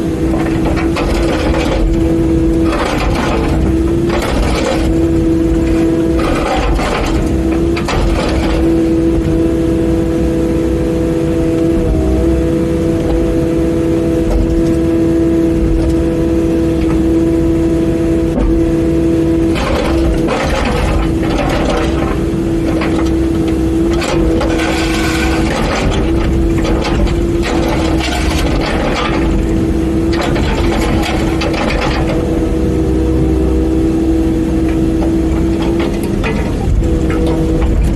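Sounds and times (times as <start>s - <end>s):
excavator engine running: 0.0s - 37.9s.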